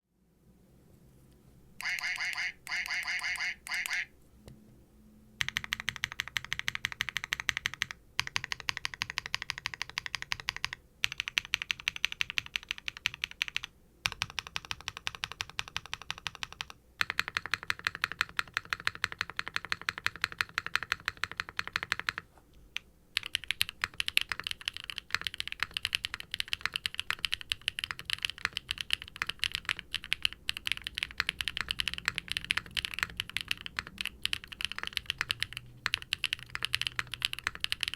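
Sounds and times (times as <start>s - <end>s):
mechanical keyboard typing: 5.4s - 22.2s, 23.2s - 37.9s.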